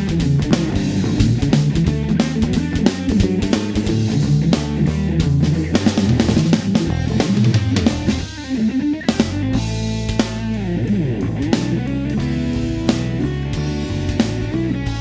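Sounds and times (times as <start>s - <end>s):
backing track with drums: 0.0s - 15.0s
electric guitar runs: 0.0s - 15.0s.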